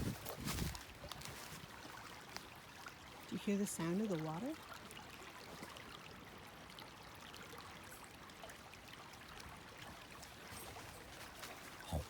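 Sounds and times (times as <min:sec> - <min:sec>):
brook trickling over stones: 0:00.0 - 0:12.0.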